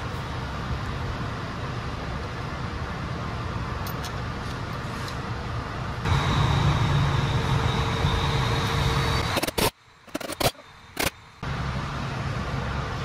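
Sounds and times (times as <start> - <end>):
machine hum with high whine: 0.0 - 13.0.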